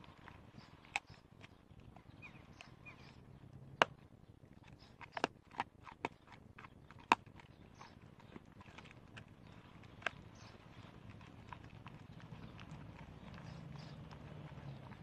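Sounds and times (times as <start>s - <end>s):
dog crunching a bone: 0.0s - 15.0s.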